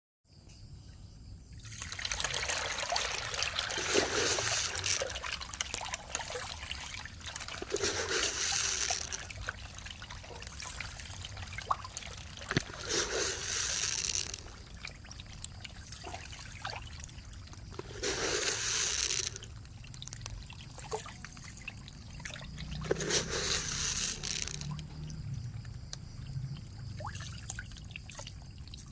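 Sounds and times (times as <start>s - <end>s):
pond water splashing: 1.6s - 28.9s.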